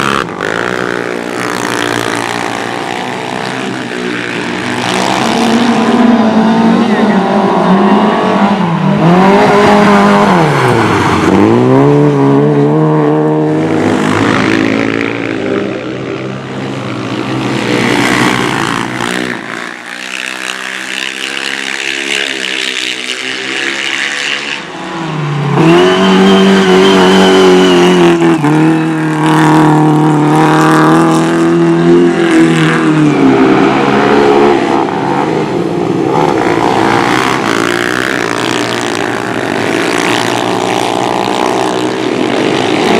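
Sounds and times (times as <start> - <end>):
motorcycles racing engines revving: 0.0 - 42.9.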